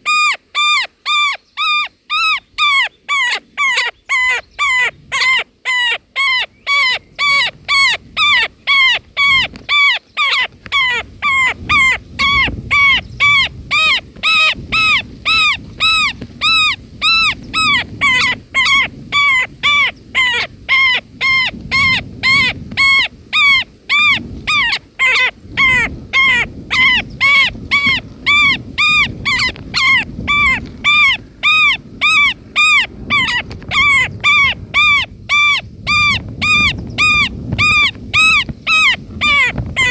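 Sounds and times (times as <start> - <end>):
nestlings begging calls: 0.0 - 39.9.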